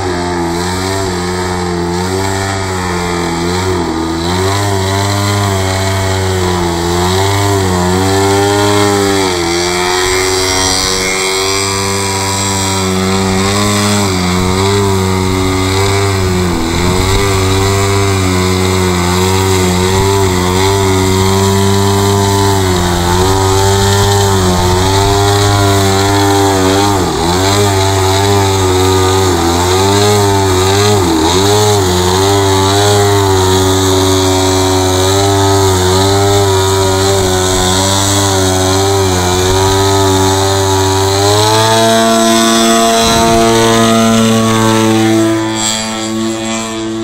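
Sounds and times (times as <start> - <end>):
model plane engine: 0.0 - 47.0.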